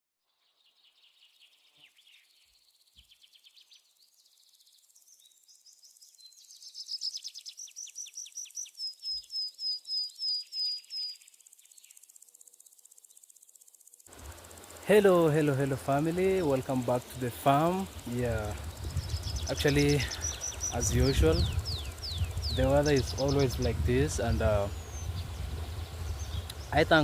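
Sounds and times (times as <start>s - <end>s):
birds chirping and trilling: 0.4s - 12.2s, 14.1s - 27.0s.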